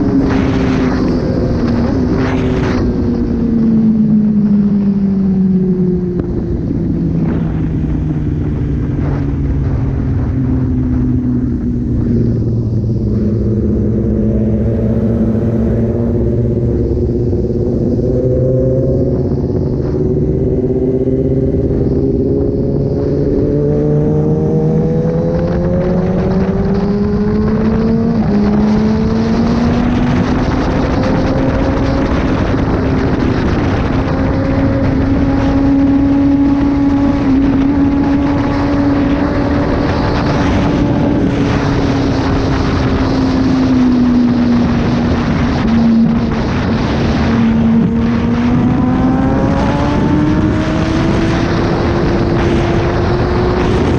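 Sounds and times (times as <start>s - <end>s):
motorcycle engine while riding: 0.0s - 53.9s
rushing wind noise: 0.0s - 53.9s.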